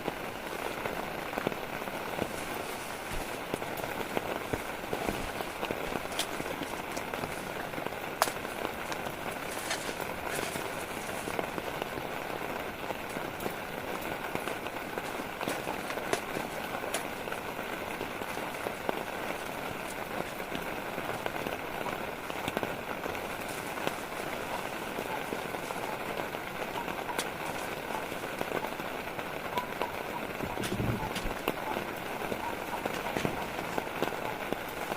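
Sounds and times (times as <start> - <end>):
rain falling steadily: 0.0 - 34.9
sharp taps of raindrops: 0.0 - 34.9.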